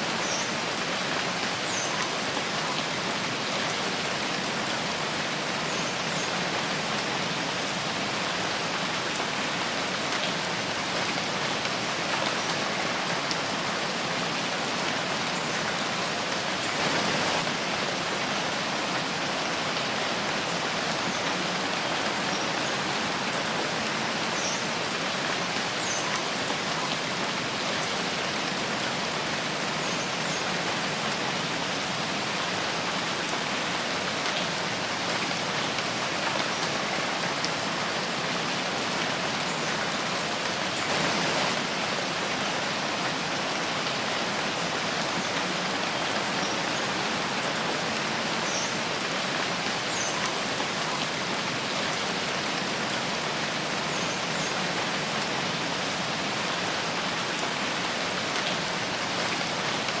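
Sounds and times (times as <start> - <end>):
rain pattering on leaves: 0.0 - 60.0.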